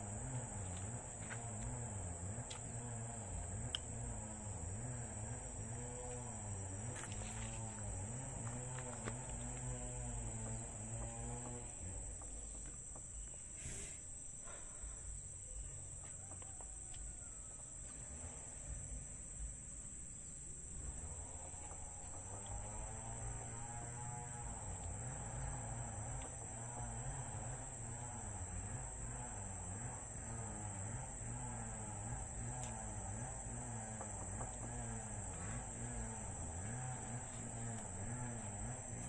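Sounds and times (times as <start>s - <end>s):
insects droning: 0.0s - 39.0s.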